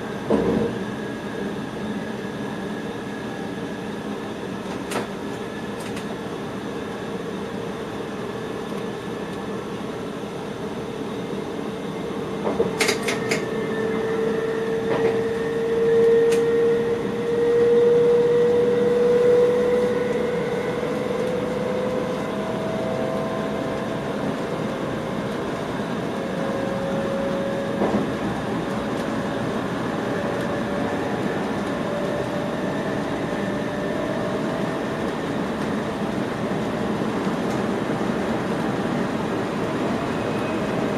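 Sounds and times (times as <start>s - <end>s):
train rolling rumble: 0.0s - 40.9s.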